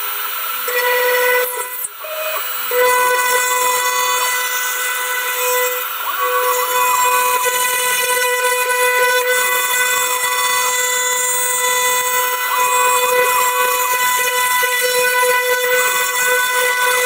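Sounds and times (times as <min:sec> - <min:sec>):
end mill cutting aluminium: 0:00.0 - 0:17.0
machine spindle whining: 0:00.0 - 0:17.0.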